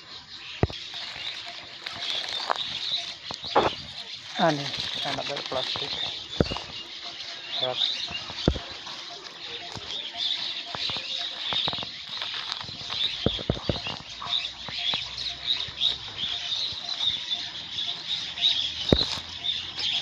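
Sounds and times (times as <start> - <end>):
birds chirping: 0.0 - 20.0
footsteps in dry weeds: 0.2 - 20.0.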